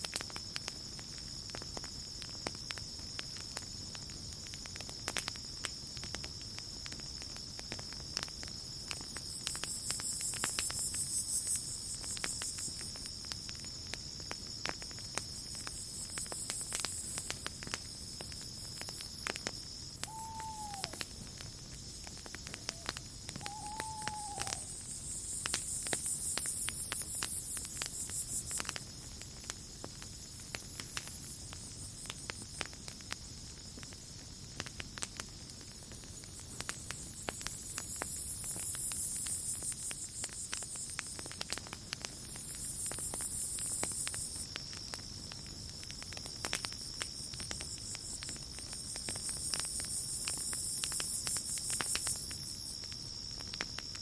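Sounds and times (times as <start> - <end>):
campfire crackling and popping: 0.0 - 54.0
cricket trill: 0.0 - 54.0.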